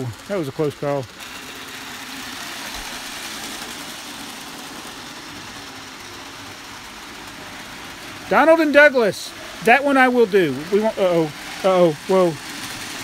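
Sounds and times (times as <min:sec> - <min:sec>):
model train motors whirring: 0:00.0 - 0:13.0.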